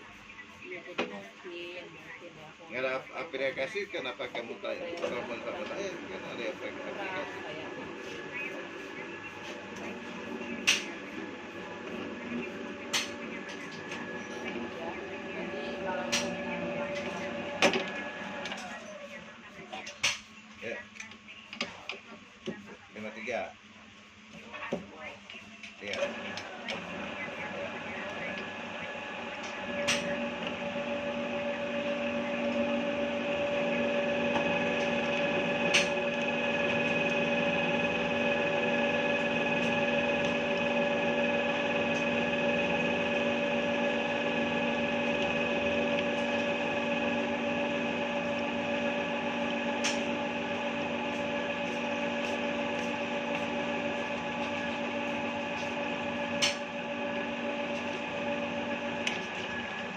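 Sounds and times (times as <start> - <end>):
pipe threading machine humming: 2.6 - 22.1, 25.6 - 59.9.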